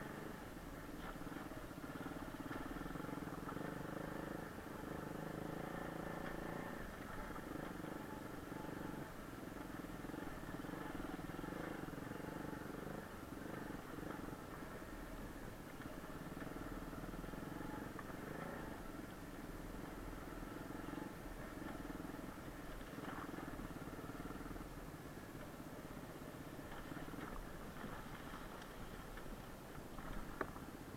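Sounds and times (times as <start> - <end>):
pit bike engine running: 0.0 - 30.9.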